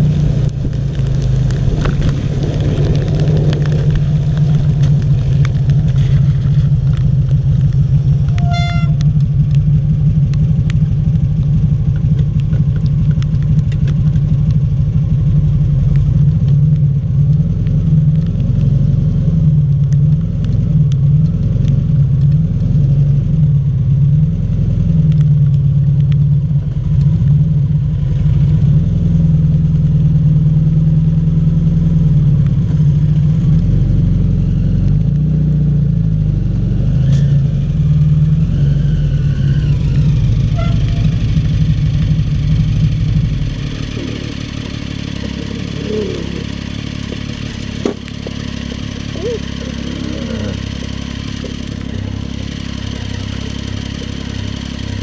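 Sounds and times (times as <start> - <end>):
trike engine running at low revs: 0.0 - 55.0.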